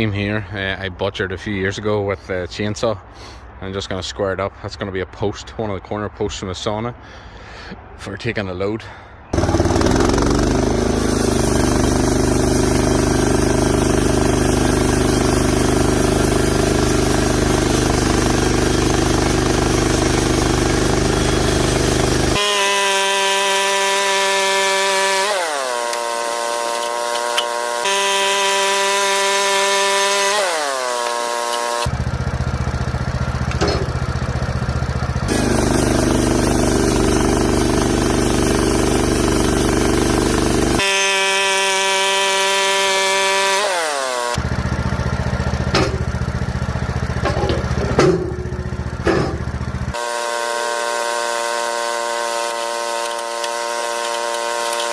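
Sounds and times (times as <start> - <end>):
sawmill engine running: 9.4 - 54.9.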